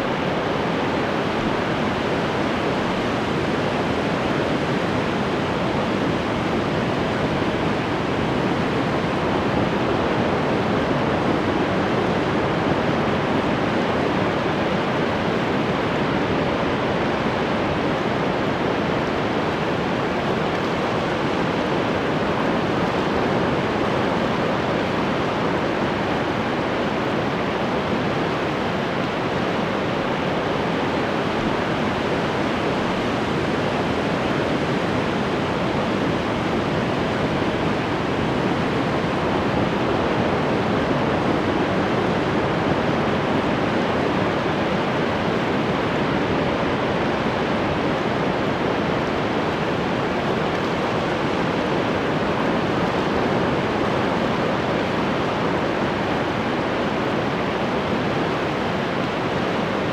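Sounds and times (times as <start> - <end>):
ocean surf washing ashore: 0.0 - 59.9.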